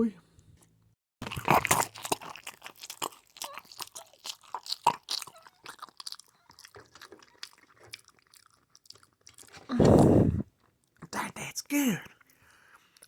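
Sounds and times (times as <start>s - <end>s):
waffle being chewed with crunching: 1.2s - 11.0s, 12.1s - 13.0s.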